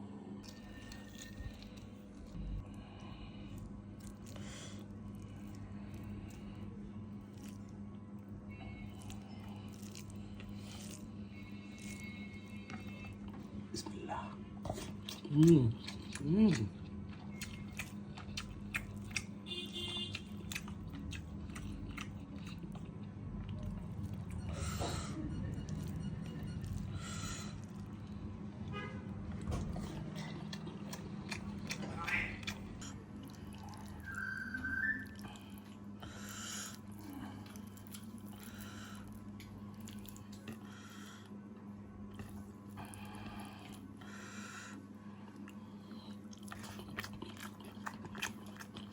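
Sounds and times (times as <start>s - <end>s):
low steady hum: 0.0s - 48.9s
person chewing crunchily: 0.4s - 14.0s, 14.6s - 41.1s, 42.0s - 48.9s.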